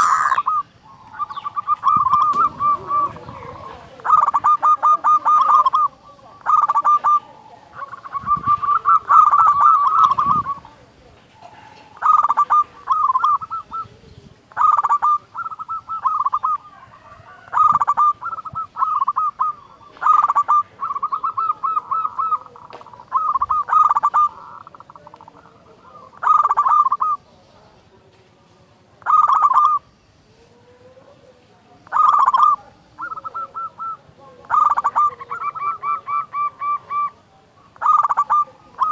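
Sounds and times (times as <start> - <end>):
dove cooing: 0.0 - 27.4, 29.0 - 29.9, 30.5 - 38.9.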